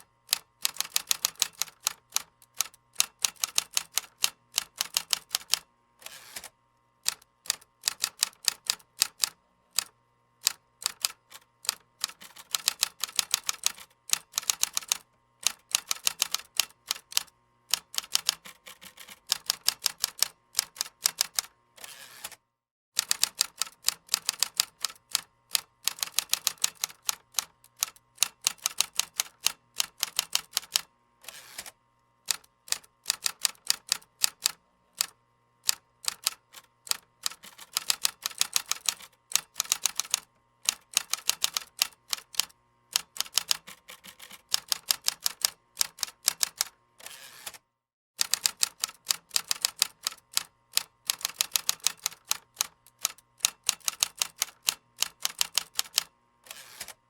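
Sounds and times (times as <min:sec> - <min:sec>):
computer keyboard typing: 0:00.3 - 0:05.6, 0:07.1 - 0:21.5, 0:23.0 - 0:30.9, 0:32.3 - 0:46.7, 0:48.2 - 0:56.1.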